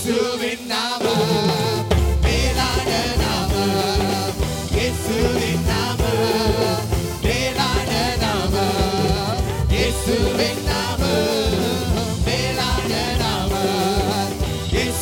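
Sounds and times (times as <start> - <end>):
keyboards: 0.0 - 15.0
steady drum beat: 0.0 - 15.0
bass guitar: 1.4 - 15.0.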